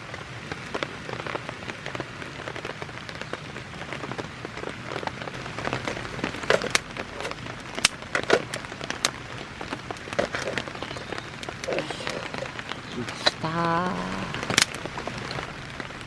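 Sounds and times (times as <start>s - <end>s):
rain falling: 0.0s - 16.0s
sharp crackles and ticks: 0.0s - 16.0s.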